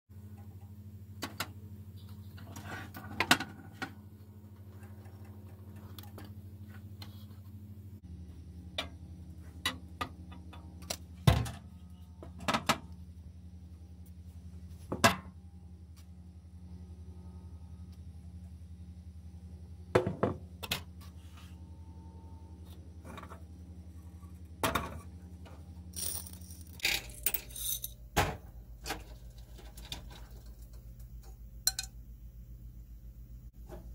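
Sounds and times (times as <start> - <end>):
steady low hum: 0.2 - 33.9.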